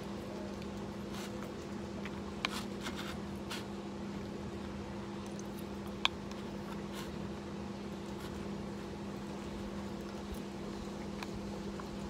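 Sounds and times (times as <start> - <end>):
soft eating sounds: 0.0 - 12.0
steady low hum: 0.0 - 12.0.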